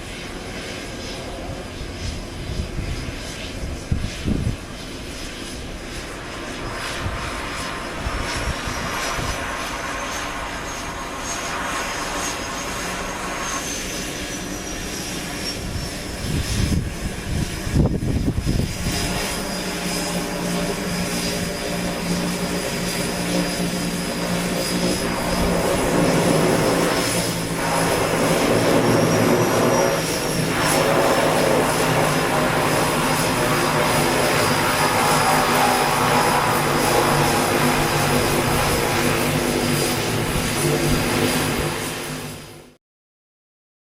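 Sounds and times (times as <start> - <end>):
turboprop engines running: 0.0 - 42.8.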